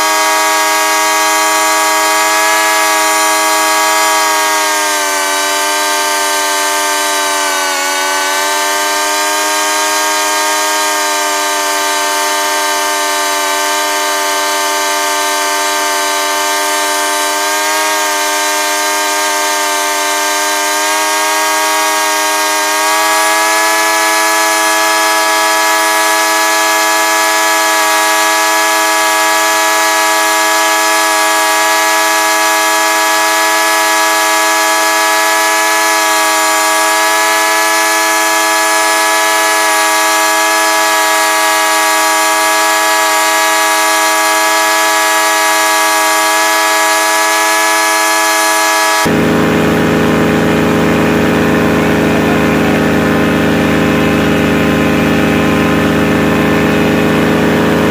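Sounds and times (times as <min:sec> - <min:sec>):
paramotor engine droning: 0:00.0 - 0:57.9.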